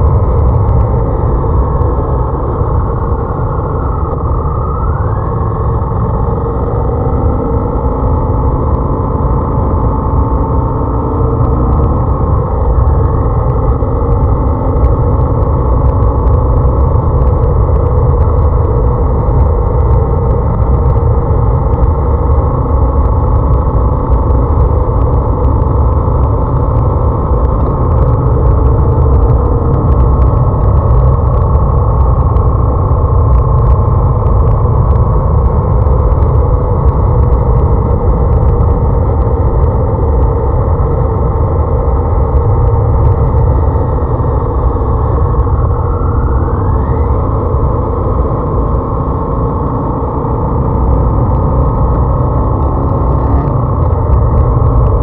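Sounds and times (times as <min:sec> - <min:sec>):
motorcycle engine: 0:00.0 - 0:55.0
wind rumble on microphone: 0:00.0 - 0:55.0.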